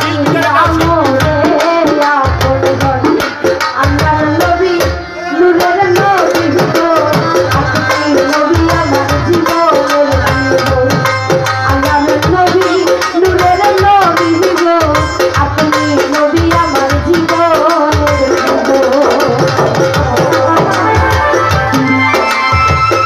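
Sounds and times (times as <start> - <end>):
hand drums: 0.0 - 23.0
woman singing into microphone: 0.0 - 23.0.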